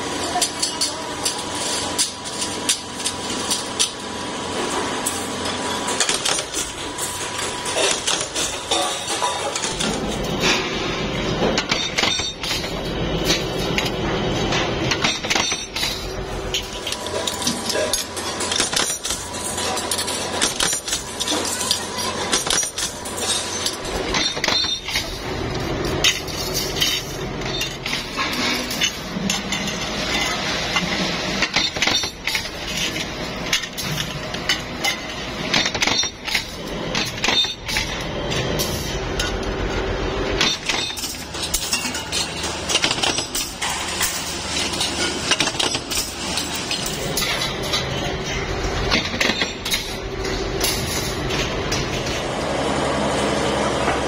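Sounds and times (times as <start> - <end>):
workshop machine noise: 0.0 - 54.0
metallic clanks and clinks: 4.6 - 52.3.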